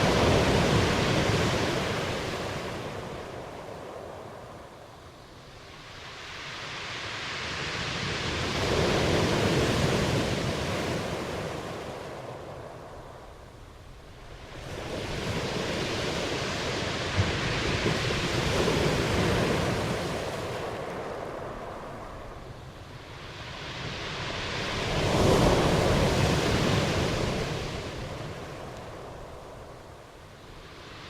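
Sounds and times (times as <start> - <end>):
ocean surf washing ashore: 0.0 - 31.0.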